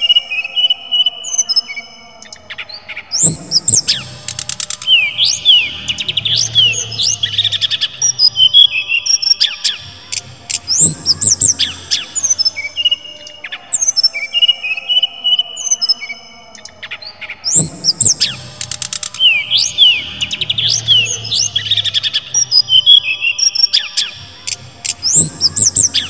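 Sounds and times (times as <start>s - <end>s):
bird singing whistled notes and trills: 0.0s - 26.0s.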